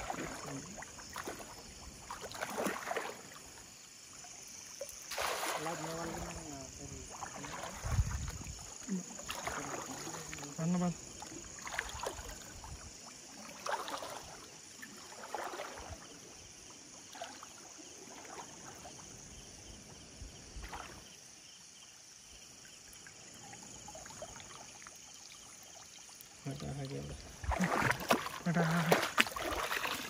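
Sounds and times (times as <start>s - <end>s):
shallow water sloshing and splashing: 0.0s - 21.3s, 22.4s - 30.0s.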